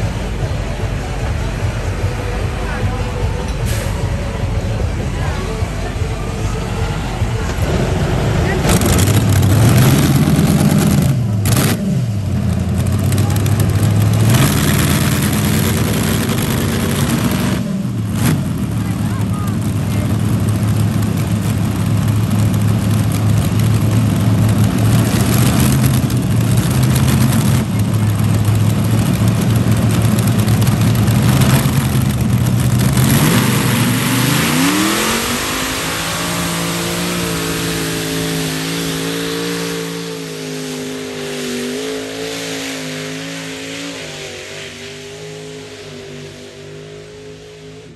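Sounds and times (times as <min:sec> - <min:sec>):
tractor engine revving: 0:00.0 - 0:47.9.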